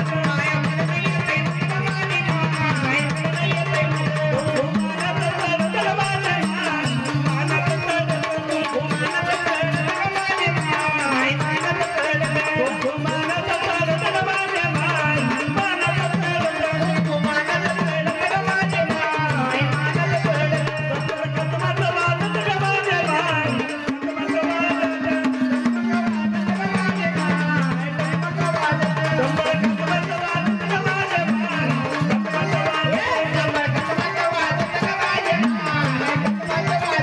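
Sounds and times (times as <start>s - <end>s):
fast hand-drum beats: 0.0s - 37.0s
jingling percussion: 0.0s - 37.0s.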